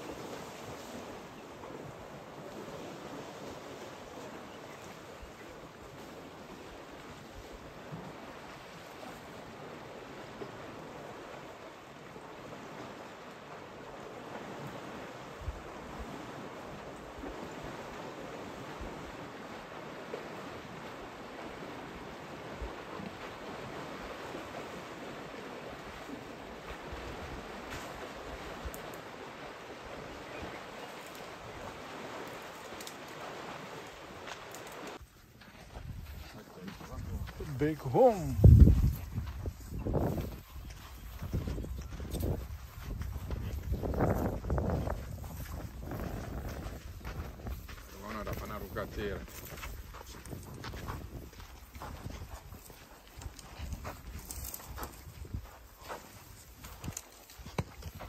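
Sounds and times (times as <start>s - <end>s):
elephants wading in water: 0.0s - 58.0s.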